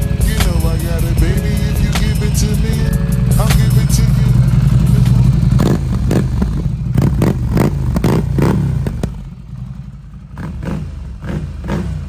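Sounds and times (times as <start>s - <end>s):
motorcycle engine low drone: 0.0s - 12.0s
motorcycle exhaust short sharp bursts: 0.0s - 12.0s.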